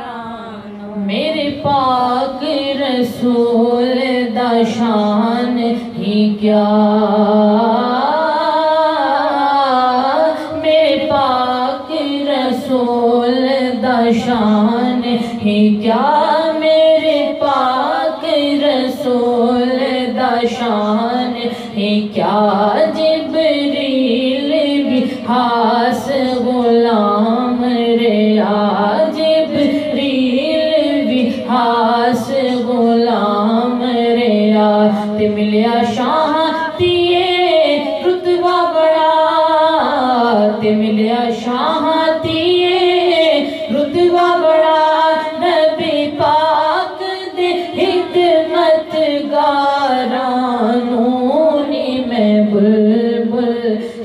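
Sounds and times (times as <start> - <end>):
woman singing devotional song: 0.0 - 54.0.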